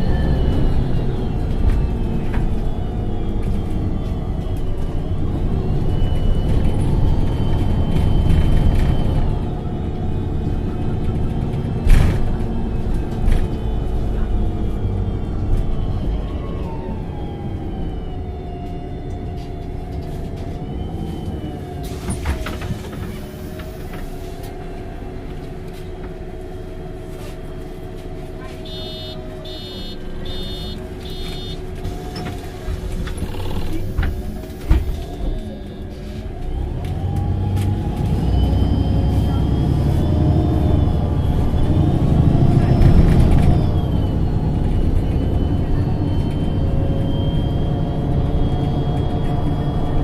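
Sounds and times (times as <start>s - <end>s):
bus engine running: 0.0s - 50.0s.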